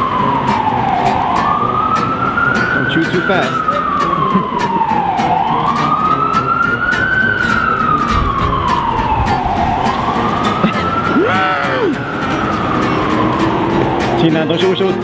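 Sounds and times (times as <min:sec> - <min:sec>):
emergency siren wailing: 0:00.0 - 0:15.0
low street rumble: 0:00.0 - 0:15.0.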